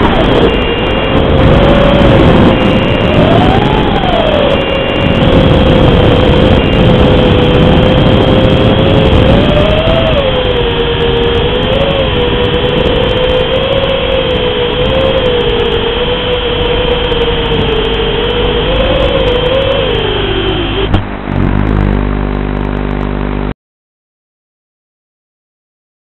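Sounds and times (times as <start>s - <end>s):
drone motors buzzing whine: 0.0s - 23.5s
low steady hum: 0.0s - 23.6s.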